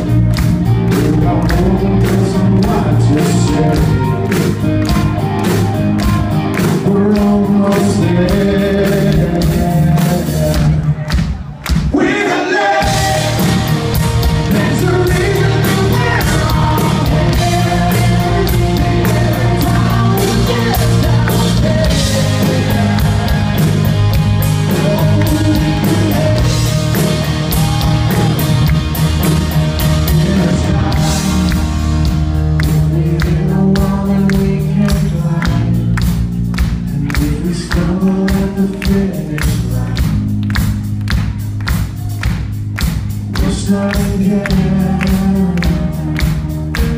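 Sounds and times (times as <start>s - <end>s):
electric guitar: 0.0s - 11.2s, 12.6s - 46.9s
live rock band playing: 0.0s - 46.9s.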